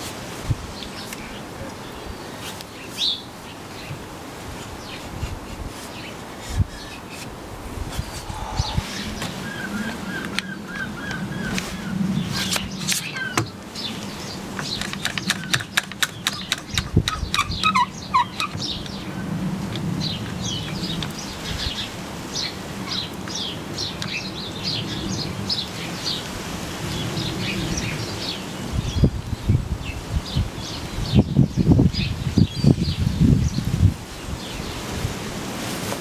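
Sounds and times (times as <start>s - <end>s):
small birds chirping: 0.7s - 4.0s, 4.6s - 7.3s, 7.9s - 26.3s, 26.9s - 34.8s.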